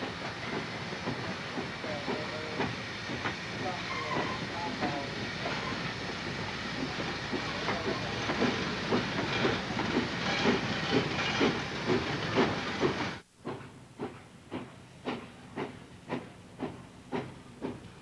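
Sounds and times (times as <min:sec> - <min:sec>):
steady steam hiss: 0:00.0 - 0:18.0
steam locomotive exhaust chuffing: 0:00.0 - 0:18.0.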